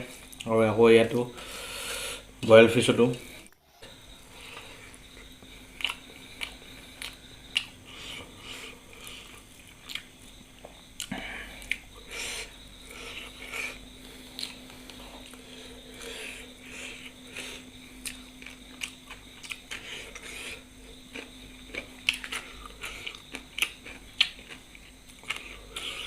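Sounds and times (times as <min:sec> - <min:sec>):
person chewing food: 0:03.4 - 0:26.0.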